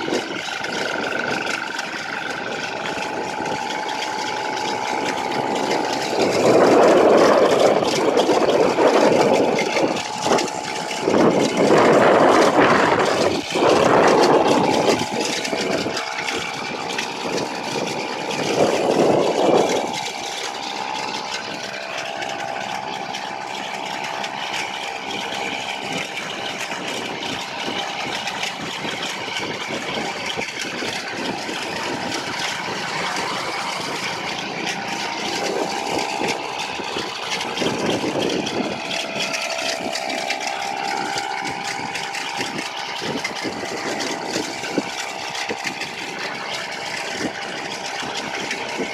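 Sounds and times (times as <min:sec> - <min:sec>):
road and wind noise: 0:00.0 - 0:48.9
small petrol engine drone: 0:00.0 - 0:48.9.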